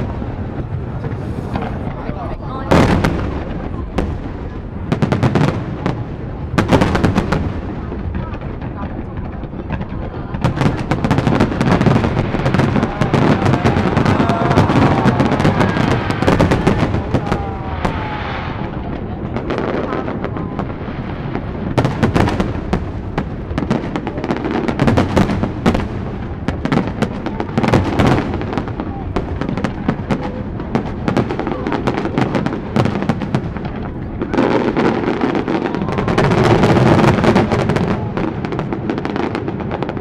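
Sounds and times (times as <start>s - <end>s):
firework crackling: 0.0s - 40.0s.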